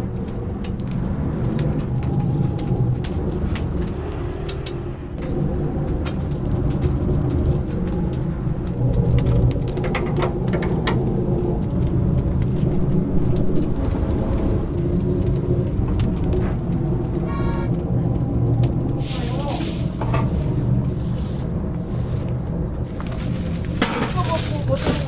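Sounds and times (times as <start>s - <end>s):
fire crackling: 0.0s - 25.0s
low mechanical hum: 0.1s - 25.0s.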